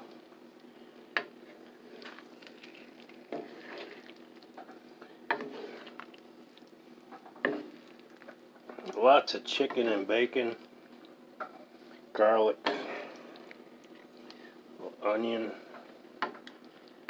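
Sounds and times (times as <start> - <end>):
sauce simmering: 0.0 - 17.0
spatula stirring thick sauce: 0.5 - 14.7.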